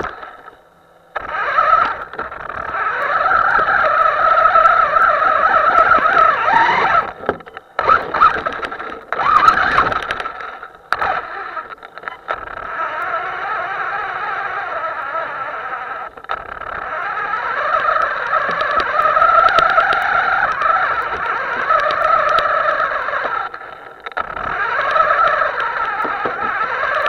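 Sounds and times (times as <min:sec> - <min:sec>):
toy car electric motor whining: 0:00.0 - 0:27.0.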